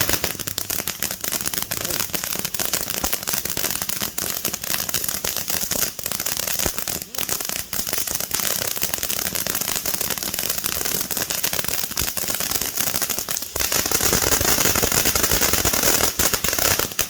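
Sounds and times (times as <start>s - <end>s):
firework fountain hissing and crackling: 0.0s - 17.0s.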